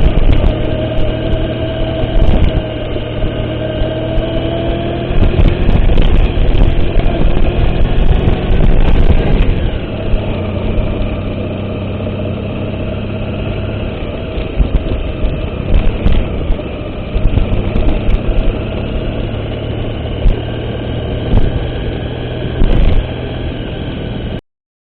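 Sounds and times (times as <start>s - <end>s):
vehicle engine running: 0.0s - 24.4s.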